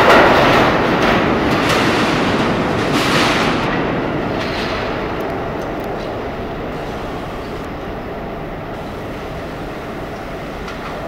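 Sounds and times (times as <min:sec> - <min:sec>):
subway train rumbling in tunnel: 0:00.0 - 0:11.0.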